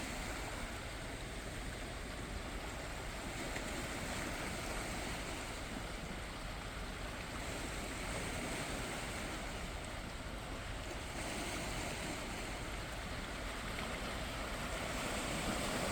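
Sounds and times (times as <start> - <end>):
gentle sea waves washing in: 0.0 - 15.9.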